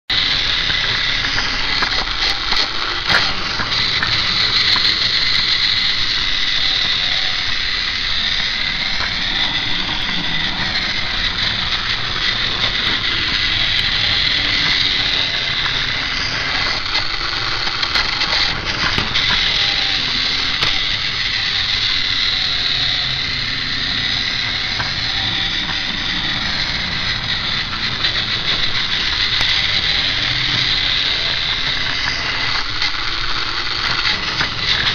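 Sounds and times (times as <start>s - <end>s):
toy train motor whine: 0.1s - 34.9s.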